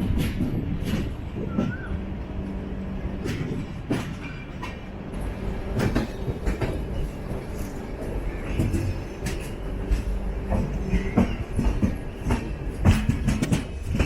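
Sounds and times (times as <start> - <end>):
train rumbling on rails: 0.0 - 14.0
wheels clacking on rail joints: 0.0 - 14.0.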